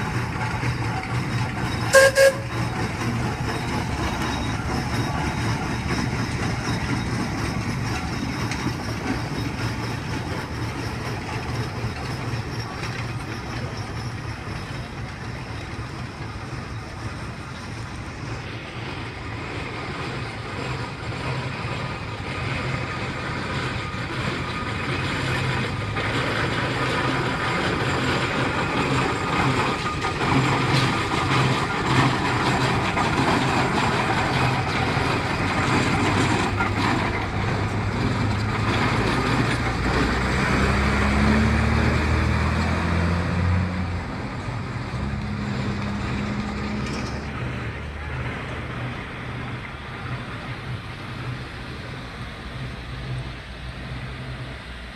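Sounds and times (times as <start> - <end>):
steam traction engine rolling: 0.0 - 54.9
van engine running: 0.0 - 54.9.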